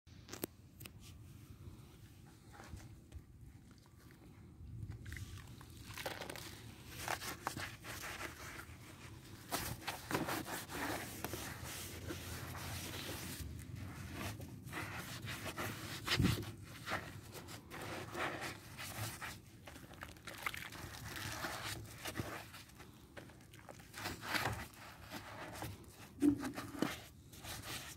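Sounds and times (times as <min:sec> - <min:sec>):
wet sponge squishing: 0:03.6 - 0:27.9.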